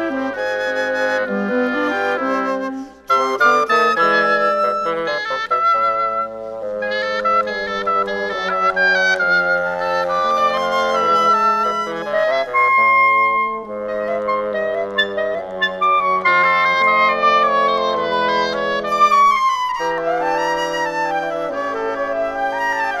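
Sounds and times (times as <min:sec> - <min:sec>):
woodwind quintet playing: 0:00.0 - 0:23.0.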